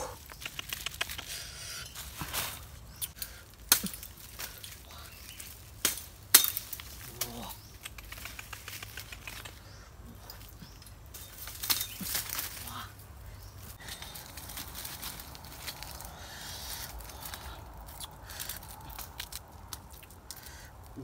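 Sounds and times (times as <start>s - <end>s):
leaves and twigs rustling: 0.0s - 21.0s
twigs snapping: 0.2s - 1.4s, 2.0s - 9.7s, 10.3s - 21.0s.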